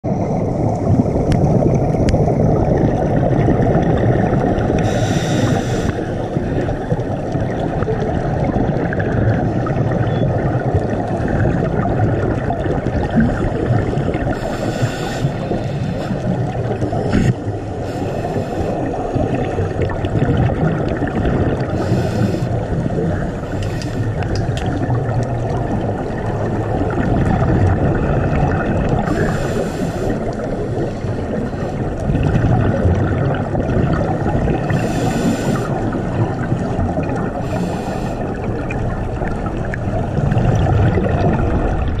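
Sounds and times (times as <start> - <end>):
low underwater rush: 0.0 - 42.0
hissing exhaled bubbles: 0.1 - 42.0.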